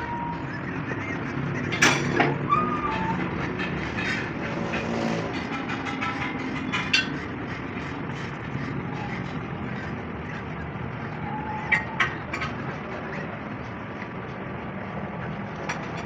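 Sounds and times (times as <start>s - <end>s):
road traffic noise: 0.0s - 16.0s
vehicle engine: 0.0s - 16.0s.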